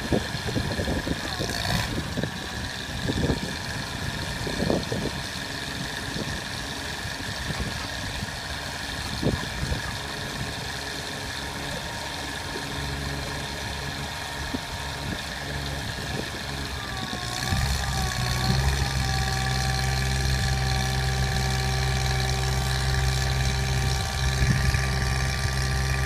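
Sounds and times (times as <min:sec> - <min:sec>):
truck engine idling: 0:00.0 - 0:26.0
wavering whine: 0:00.0 - 0:26.0.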